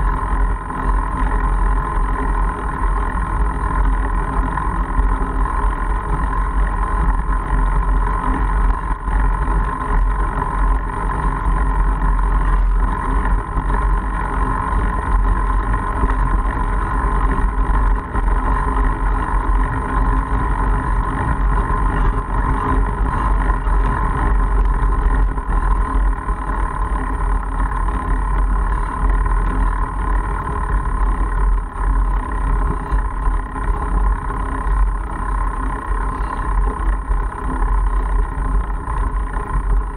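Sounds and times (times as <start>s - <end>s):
bike tyres rumbling on gravel: 0.0s - 39.9s
constant hum: 0.0s - 39.9s.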